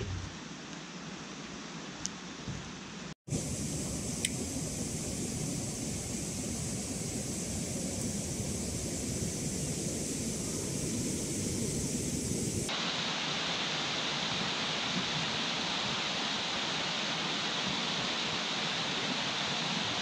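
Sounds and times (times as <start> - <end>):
stream running over rocks: 3.3 - 20.0.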